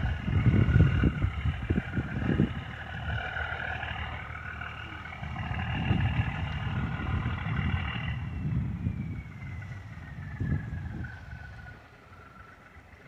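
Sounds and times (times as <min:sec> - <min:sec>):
boat engine whine and rumble: 0:00.0 - 0:13.0.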